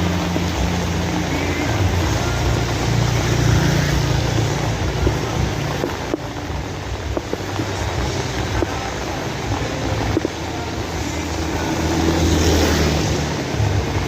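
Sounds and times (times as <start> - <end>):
rain hiss: 0.0 - 14.0.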